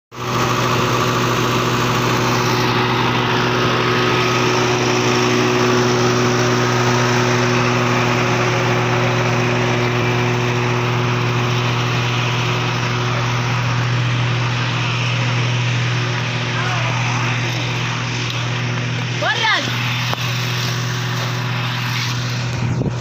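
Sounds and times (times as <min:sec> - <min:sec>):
vacuum truck engine and pump humming: 0:00.1 - 0:23.0.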